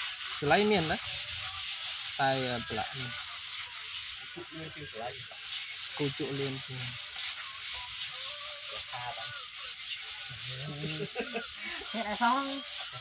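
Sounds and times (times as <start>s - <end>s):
paintbrush scrubbing wood: 0.0s - 13.0s.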